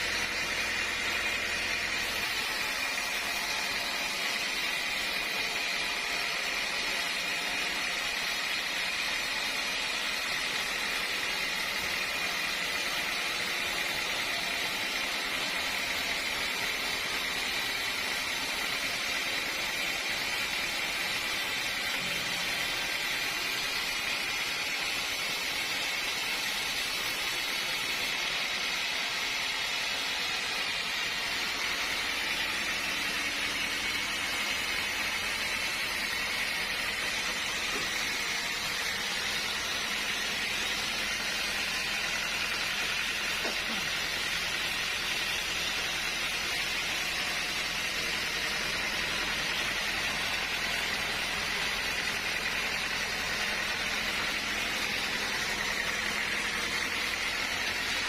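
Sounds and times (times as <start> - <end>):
sawmill machinery hiss: 0.0 - 58.0.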